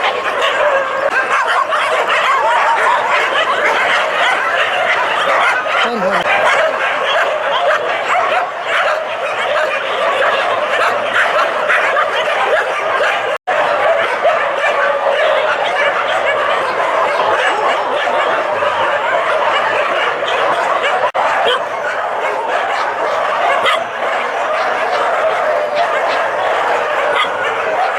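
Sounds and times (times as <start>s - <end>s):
many dogs barking and yelping: 0.0s - 27.9s.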